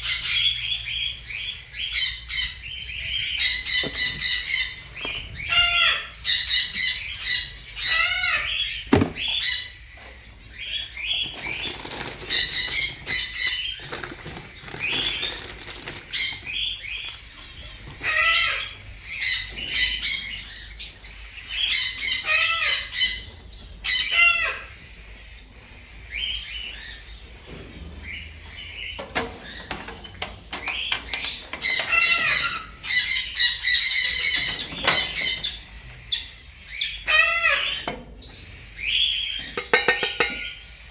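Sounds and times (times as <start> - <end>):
parrots squawking: 0.0 - 10.0, 10.6 - 24.9, 30.6 - 40.9.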